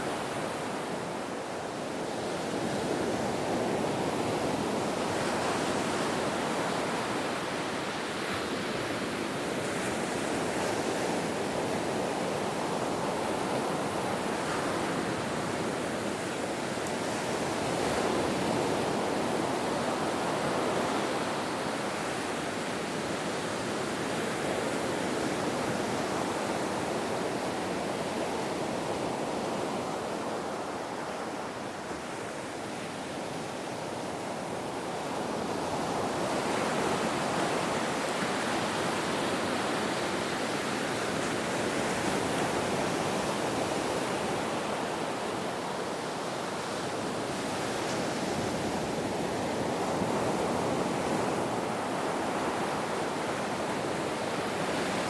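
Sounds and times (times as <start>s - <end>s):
ocean surf washing on shore: 0.0s - 55.0s.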